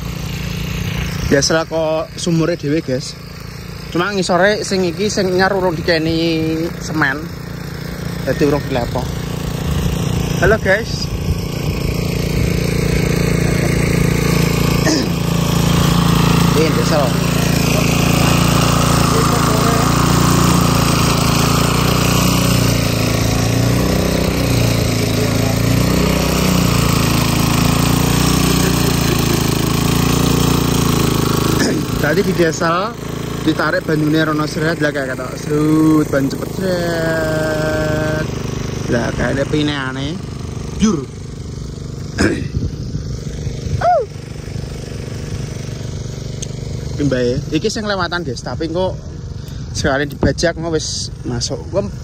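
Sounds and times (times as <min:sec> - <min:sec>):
water pump engine running: 0:00.0 - 0:52.0.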